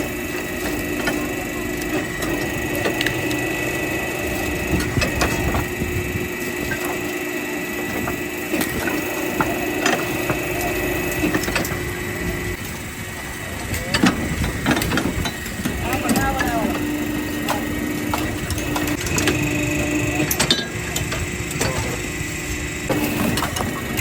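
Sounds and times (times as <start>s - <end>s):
factory machinery whine and hum: 0.0s - 24.0s.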